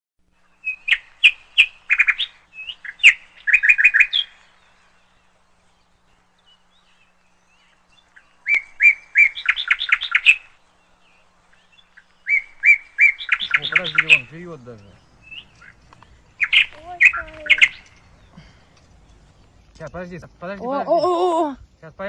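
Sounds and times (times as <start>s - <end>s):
small bird chirping: 0.2s - 21.6s.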